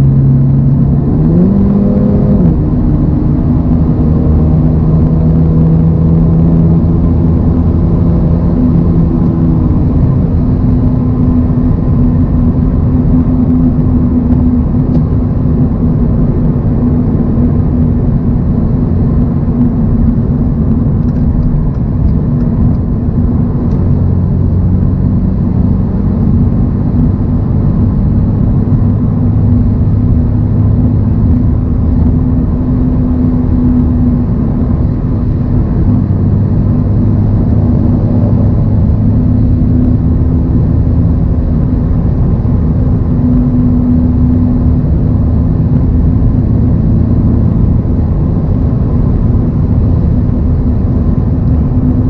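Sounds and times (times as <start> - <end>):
car engine cruising: 0.0 - 52.0
tyre and road noise: 0.0 - 52.0.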